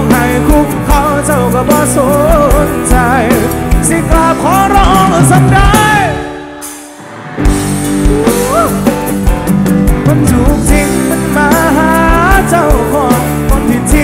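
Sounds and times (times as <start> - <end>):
person singing: 0.0 - 6.8, 7.8 - 14.0
drums keeping a steady beat: 0.0 - 14.0
live rock band: 0.0 - 14.0.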